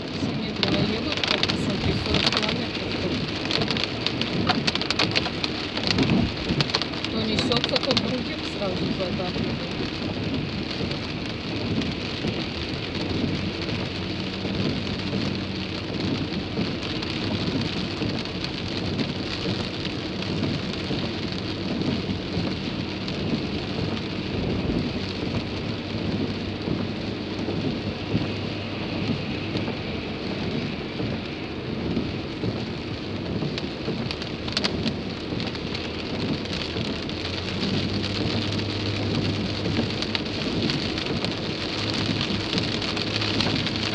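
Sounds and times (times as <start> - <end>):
car moving low hum: 0.0 - 43.9
heavy rain drumming on car roof: 0.0 - 43.9.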